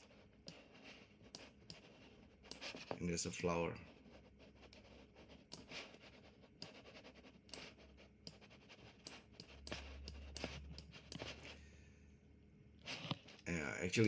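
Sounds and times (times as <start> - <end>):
mouse scraping strokes: 0.0 - 3.2, 3.8 - 11.6, 12.8 - 13.4.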